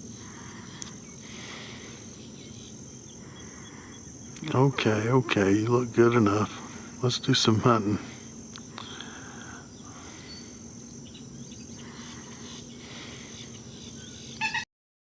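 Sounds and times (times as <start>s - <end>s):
insects droning: 0.0s - 14.7s.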